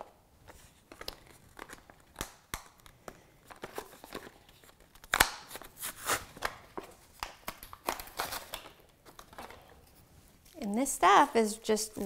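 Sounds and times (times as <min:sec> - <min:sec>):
plastic package rustling and clicking: 0:00.4 - 0:10.7.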